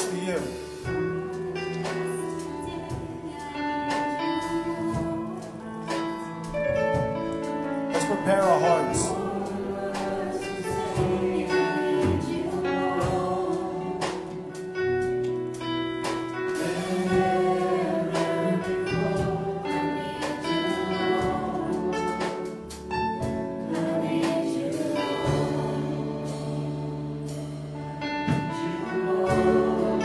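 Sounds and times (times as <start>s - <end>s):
worship band playing and singing: 0.0s - 30.0s.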